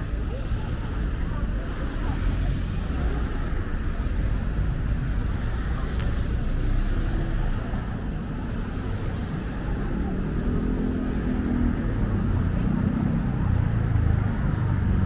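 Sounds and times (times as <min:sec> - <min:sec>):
passers-by voices: 0:00.0 - 0:15.0
road traffic rumble: 0:00.0 - 0:15.0.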